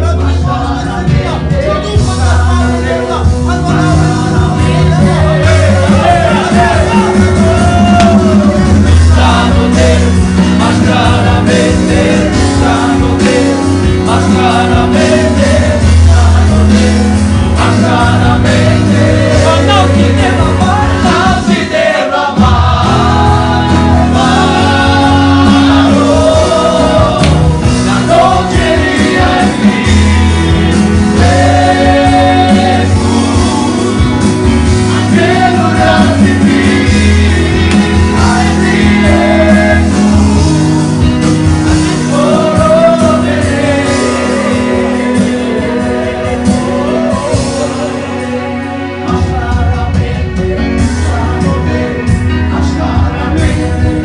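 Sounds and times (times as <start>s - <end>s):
electric keyboard with bass line: 0.0s - 54.0s
men singing worship song: 0.0s - 54.0s.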